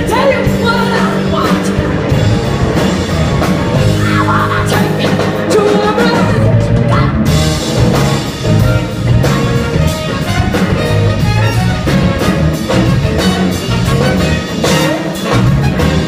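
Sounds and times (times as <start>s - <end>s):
bass: 0.0s - 16.0s
drum kit beat: 0.0s - 16.0s
guitar: 0.0s - 16.0s
horn section: 0.0s - 16.0s.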